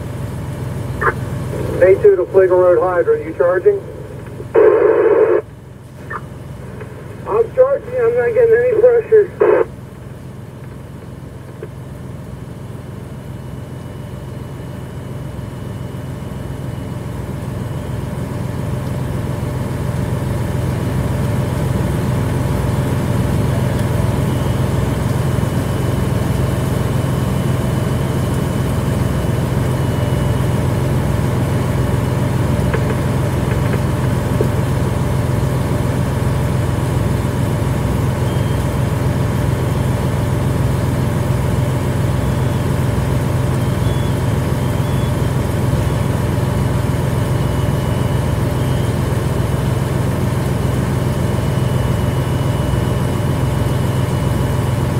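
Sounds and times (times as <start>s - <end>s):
fire engine pump engine running: 0.0s - 54.9s.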